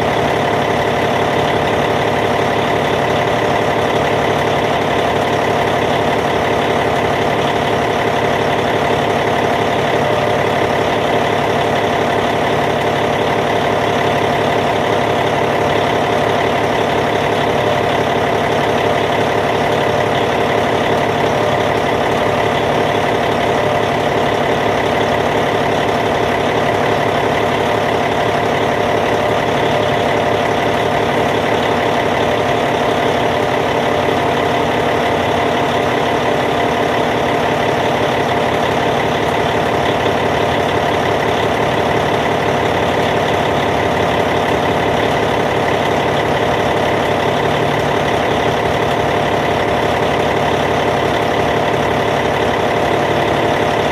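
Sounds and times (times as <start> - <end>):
bulldozer diesel engine idling: 0.0 - 53.9.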